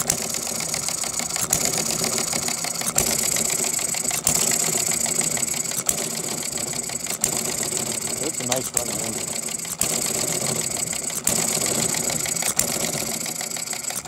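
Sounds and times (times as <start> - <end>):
gas engine clattering: 0.0 - 14.0.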